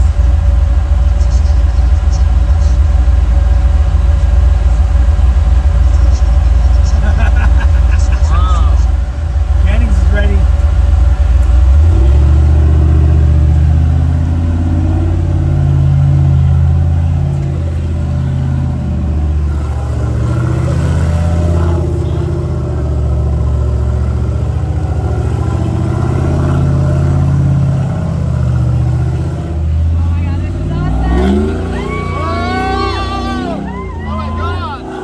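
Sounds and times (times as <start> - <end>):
engine at low revs: 0.0 - 35.0.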